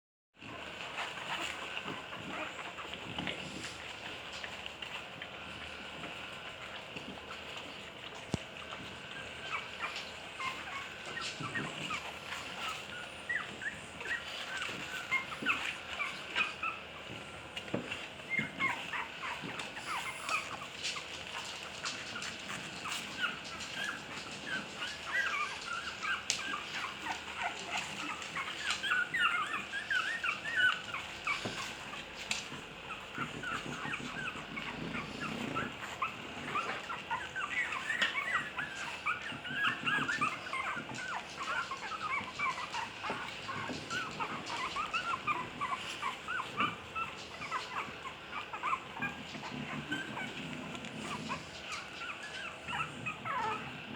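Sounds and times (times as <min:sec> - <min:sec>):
puppies whimpering and squeaking: 0:00.4 - 0:53.9.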